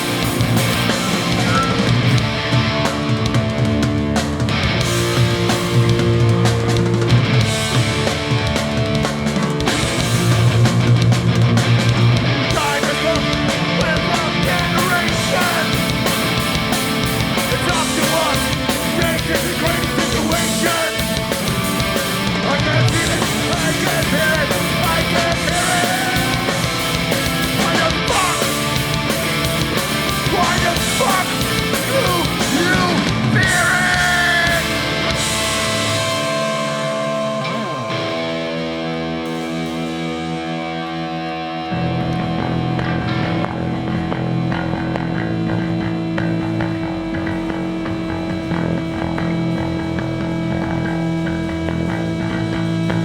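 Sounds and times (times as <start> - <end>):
bass and drums: 0.0 - 53.0
distorted guitars: 0.0 - 53.0
punk band playing live: 0.0 - 53.0.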